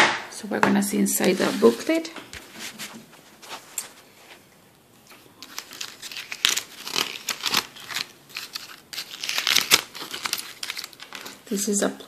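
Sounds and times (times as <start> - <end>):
paper sheets rustling: 1.2 - 4.4, 5.1 - 11.7.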